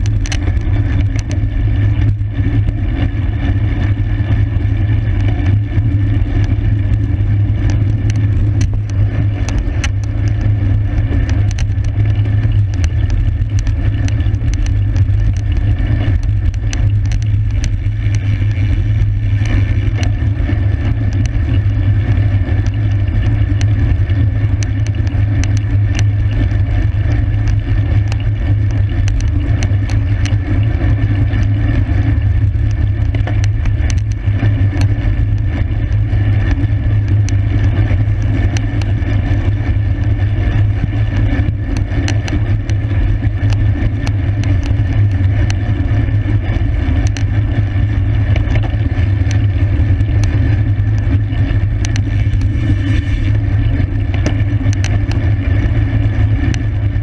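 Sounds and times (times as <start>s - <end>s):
sharp ticks: 0.0s - 57.0s
wind rumble on microphone: 0.0s - 57.0s.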